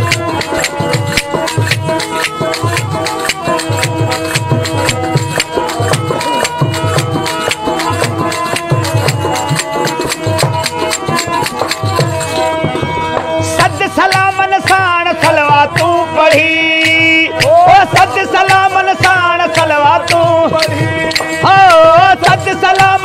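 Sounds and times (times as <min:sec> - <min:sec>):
rapid clacking hand percussion: 0:00.0 - 0:23.0
steady low drum beat: 0:00.0 - 0:23.0
sustained melody tones: 0:00.0 - 0:23.0.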